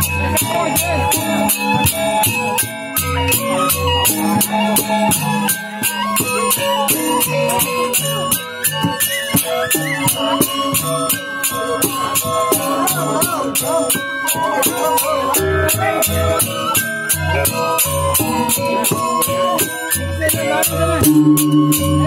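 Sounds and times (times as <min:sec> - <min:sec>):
tuned metallophones ringing: 0:00.0 - 0:22.0.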